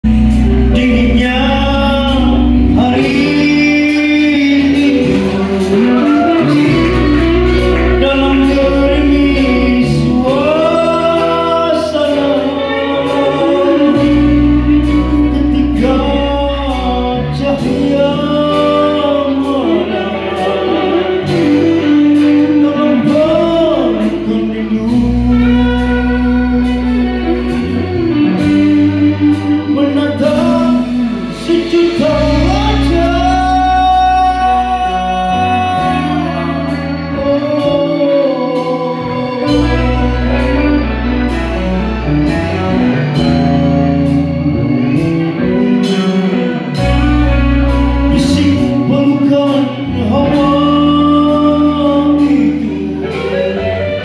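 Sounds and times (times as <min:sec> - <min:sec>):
live band playing: 0:00.0 - 0:54.0
person singing: 0:00.0 - 0:54.0.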